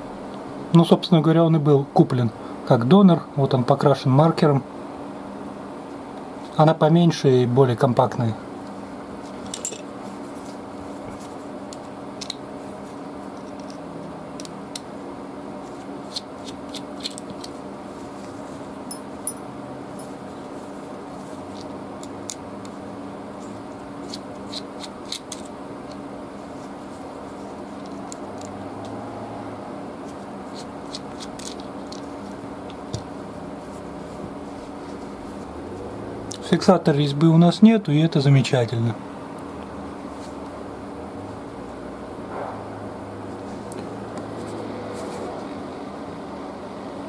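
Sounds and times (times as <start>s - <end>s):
low background hum: 0.0s - 47.0s.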